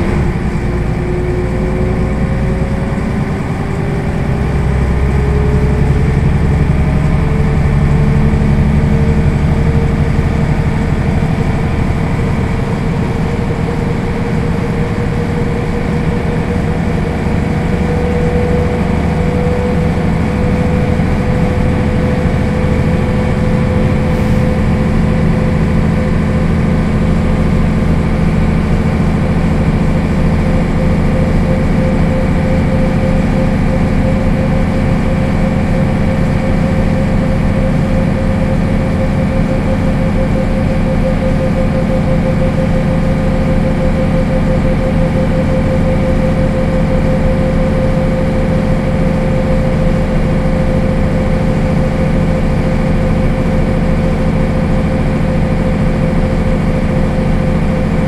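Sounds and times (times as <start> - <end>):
diesel bus engine droning: 0.0 - 58.0
whine rising in pitch: 0.0 - 58.0.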